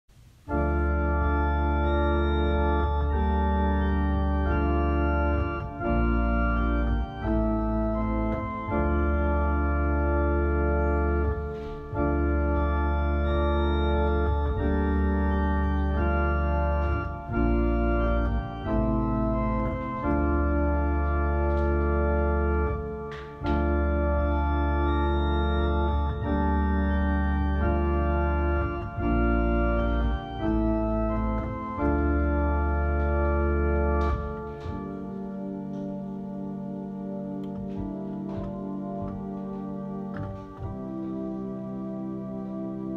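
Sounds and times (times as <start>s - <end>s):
organ playing slow chords: 0.1s - 42.9s.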